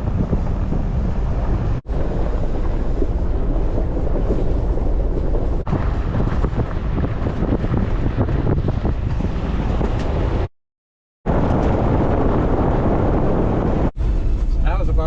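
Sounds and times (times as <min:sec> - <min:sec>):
vehicle driving rumble: 0:00.0 - 0:10.5, 0:11.3 - 0:15.0
wind on microphone: 0:00.0 - 0:10.5, 0:11.3 - 0:14.6.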